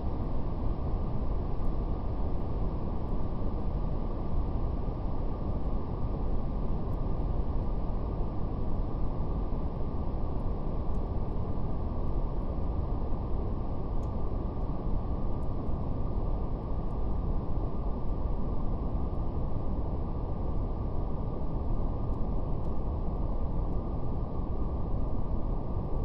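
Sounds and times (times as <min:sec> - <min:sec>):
brown noise rumbling hiss: 0:00.0 - 0:26.0.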